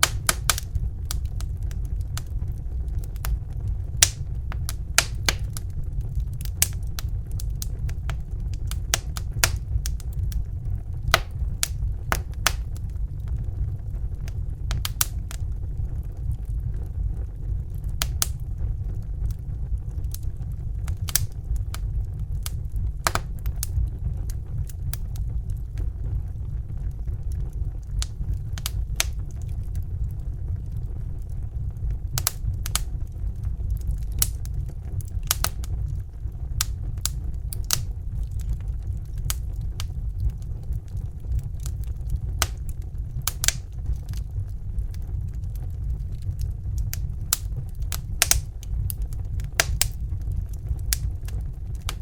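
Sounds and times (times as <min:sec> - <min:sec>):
fire crackling and popping: 0:00.0 - 0:52.0
low rumble: 0:00.0 - 0:52.0.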